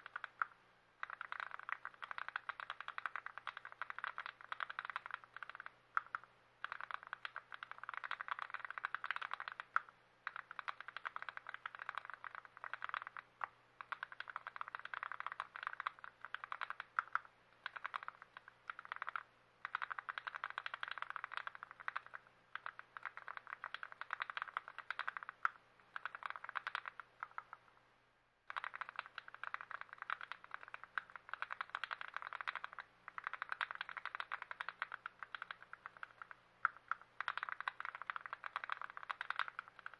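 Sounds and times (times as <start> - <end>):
mechanical keyboard clicking: 0.0 - 27.5, 28.5 - 39.9.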